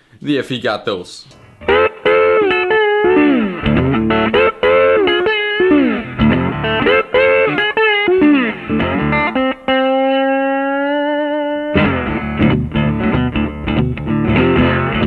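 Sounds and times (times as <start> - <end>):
guitar music with bending notes: 1.4 - 15.0.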